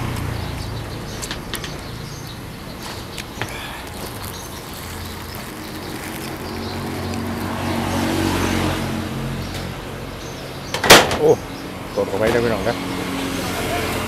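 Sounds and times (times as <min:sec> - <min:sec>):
vehicle engine passing by: 0:00.0 - 0:03.2, 0:04.3 - 0:14.0.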